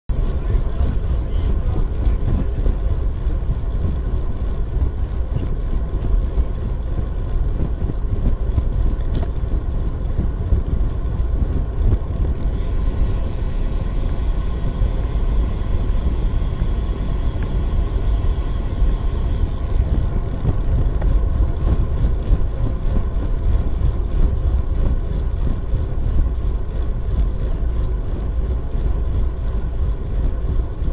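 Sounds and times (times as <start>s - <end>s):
road noise: 0.1s - 30.9s
wind buffeting microphone: 0.1s - 30.9s.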